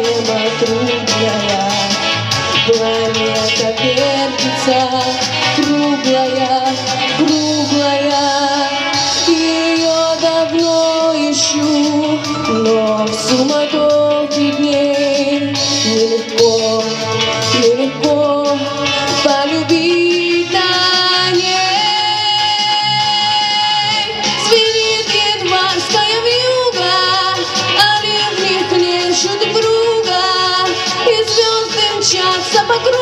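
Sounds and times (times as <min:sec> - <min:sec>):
instrumental backing: 0:00.0 - 0:33.0
woman singing pop song: 0:00.0 - 0:33.0.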